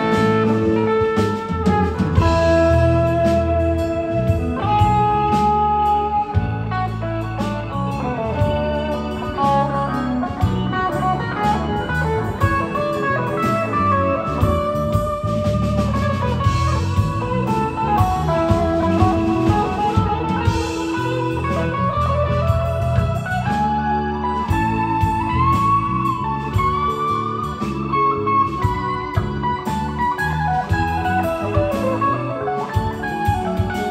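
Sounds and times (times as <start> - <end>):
bass guitar: 0.0 - 33.9
drum kit: 0.0 - 33.9
electric guitar lead: 0.0 - 33.9
keyboard: 0.0 - 33.9.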